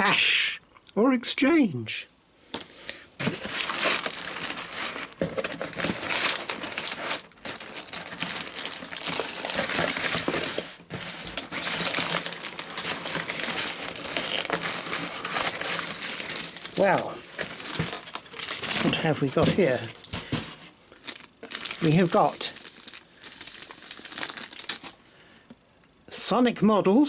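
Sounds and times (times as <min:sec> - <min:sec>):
packaging crinkling and rustling: 0:02.6 - 0:25.2.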